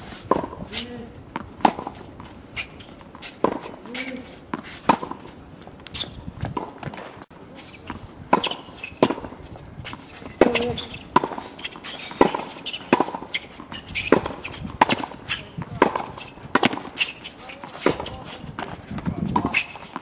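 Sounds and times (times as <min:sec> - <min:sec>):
shoes moving on court: 0:00.0 - 0:20.0
tennis ball hit and bouncing: 0:00.2 - 0:05.3, 0:05.9 - 0:20.0.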